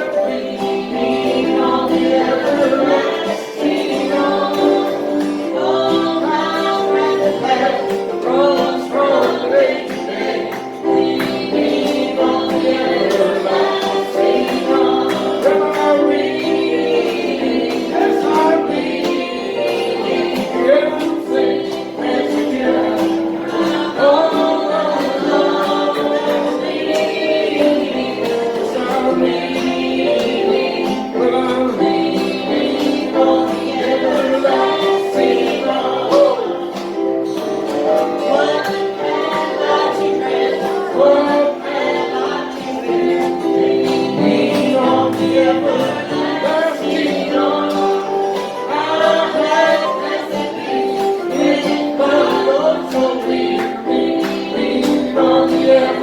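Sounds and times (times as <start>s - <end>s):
group singing a gospel hymn: 0.0s - 56.0s
instrumental accompaniment: 0.0s - 56.0s.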